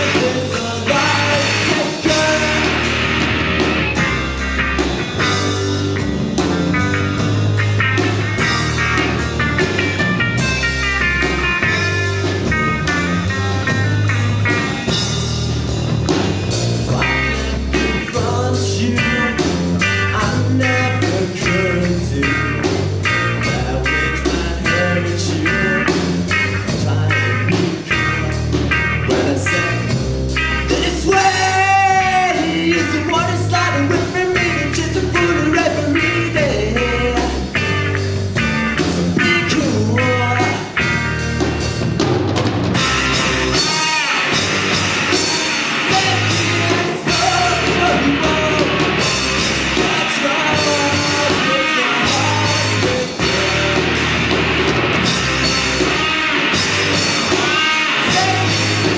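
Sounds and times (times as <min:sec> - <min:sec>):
drums beat: 0:00.0 - 0:58.9
live rock band playing: 0:00.0 - 0:58.9.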